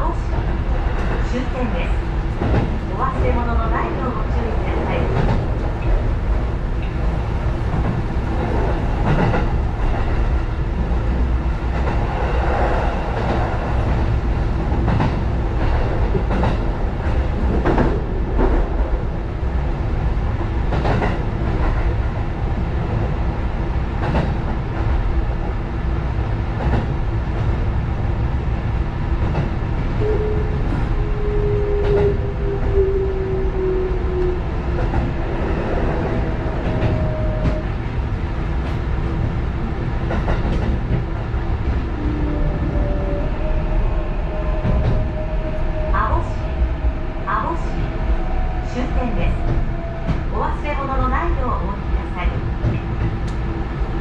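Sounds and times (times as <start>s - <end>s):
train rumbling on track: 0.0s - 54.0s.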